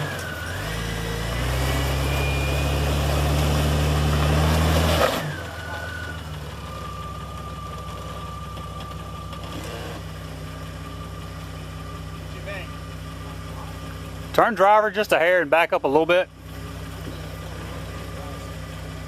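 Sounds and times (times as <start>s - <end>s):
engine crawling with whine: 0.0s - 19.0s.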